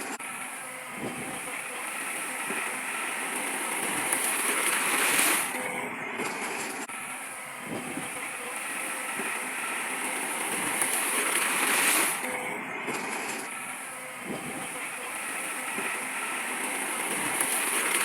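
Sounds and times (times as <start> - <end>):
noisy hiss: 0.0 - 5.6, 6.2 - 18.0
heavy construction machinery running: 0.0 - 18.0.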